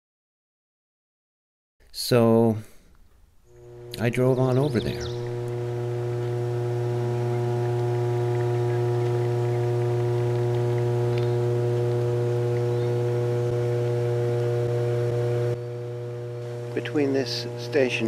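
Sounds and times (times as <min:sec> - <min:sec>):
transformer electrical hum: 0:02.1 - 0:18.0.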